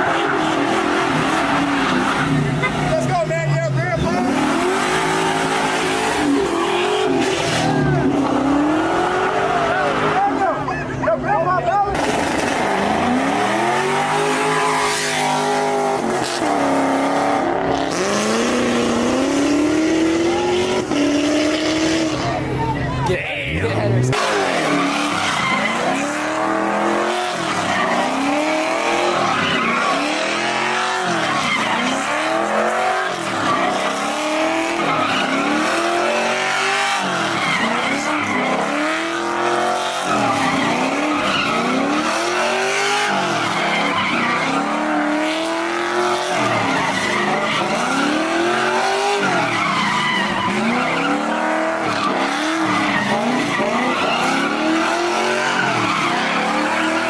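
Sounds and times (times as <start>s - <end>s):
tyres squealing: 0.0s - 17.0s, 21.8s - 57.0s
car engine revving: 0.0s - 57.0s.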